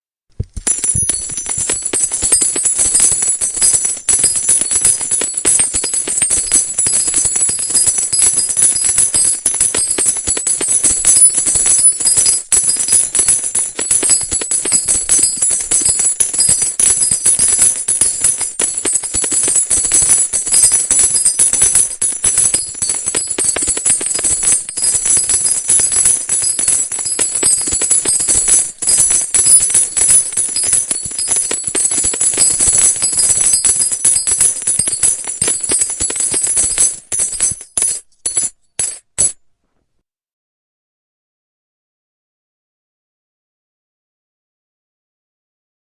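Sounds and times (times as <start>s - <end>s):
rapid metallic jingling: 0.5s - 39.4s.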